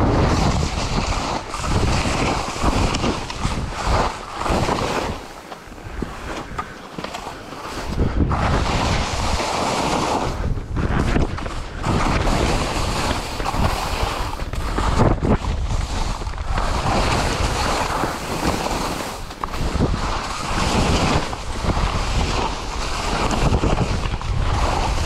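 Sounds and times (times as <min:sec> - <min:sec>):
wind buffeting microphone: 0:00.0 - 0:06.7, 0:07.6 - 0:25.0
skis scraping over snow: 0:00.0 - 0:25.0.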